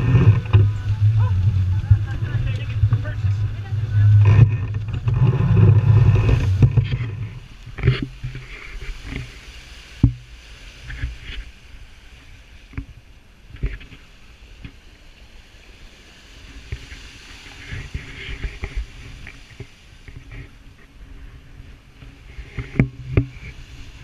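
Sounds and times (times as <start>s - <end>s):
water rushing along hull: 0.0s - 24.0s
wind buffeting microphone: 0.0s - 24.0s.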